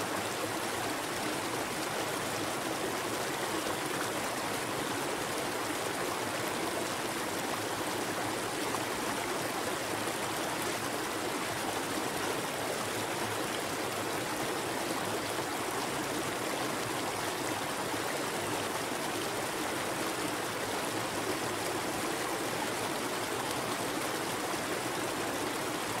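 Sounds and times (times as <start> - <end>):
rushing waterfall and river: 0.0 - 26.0.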